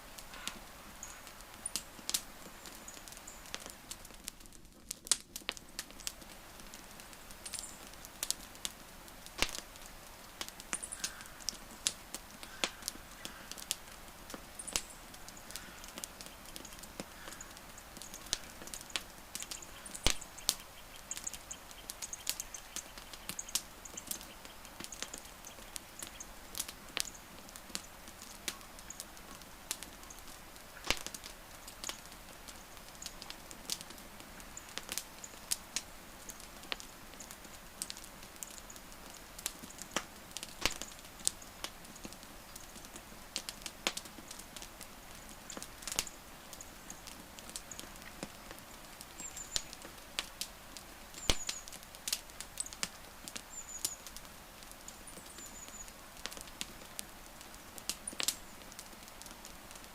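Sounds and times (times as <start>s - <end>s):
fire hiss: 0.0s - 59.9s
wood fire crackling: 0.0s - 59.9s.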